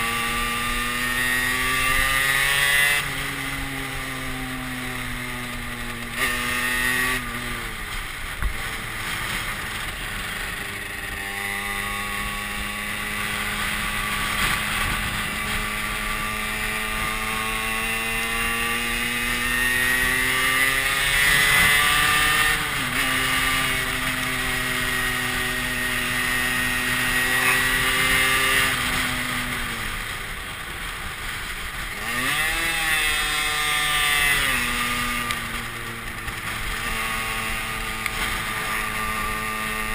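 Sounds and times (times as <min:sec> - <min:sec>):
moped engine revving: 0:00.0 - 0:39.9.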